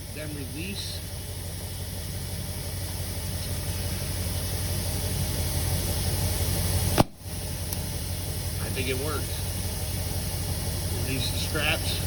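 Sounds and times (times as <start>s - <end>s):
air compressor motor hum: 0.0s - 12.0s
air hissing: 0.0s - 12.0s.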